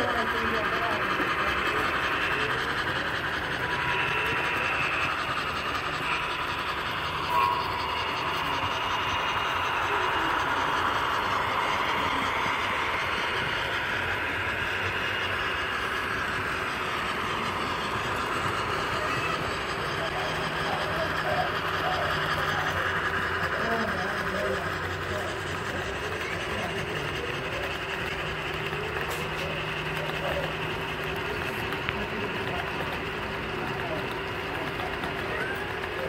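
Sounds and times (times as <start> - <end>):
model trains rolling and whirring: 0.0 - 36.0.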